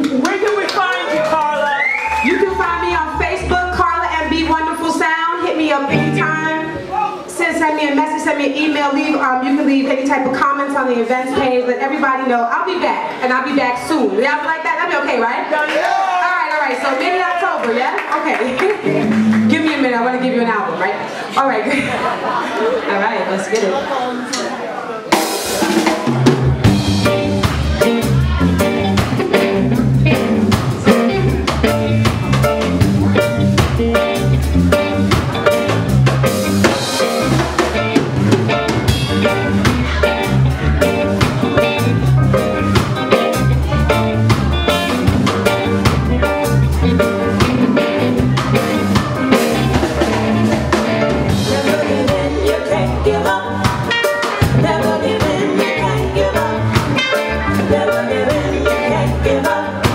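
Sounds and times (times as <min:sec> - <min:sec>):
live reggae band playing: 0:00.0 - 0:59.9.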